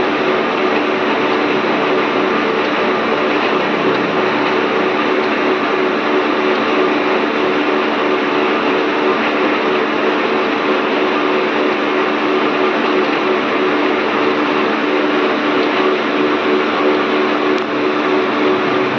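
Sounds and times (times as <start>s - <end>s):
machine motor hum: 0.0s - 18.9s.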